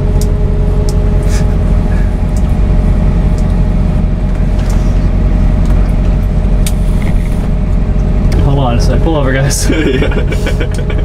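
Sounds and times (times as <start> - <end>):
engine droning from inside cabin: 0.0 - 11.0.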